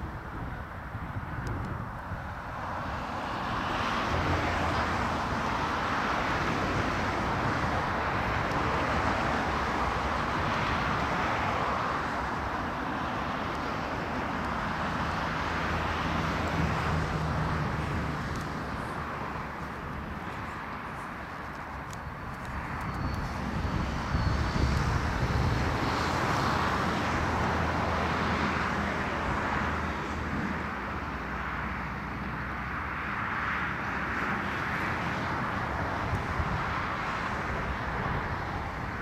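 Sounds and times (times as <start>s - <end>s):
low engine hum: 0.0s - 33.0s
vehicles passing: 0.0s - 39.0s.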